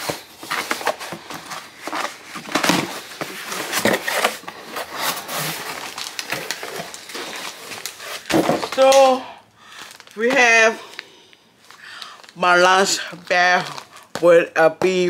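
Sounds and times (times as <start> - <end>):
packaging rustling: 0.0 - 14.3.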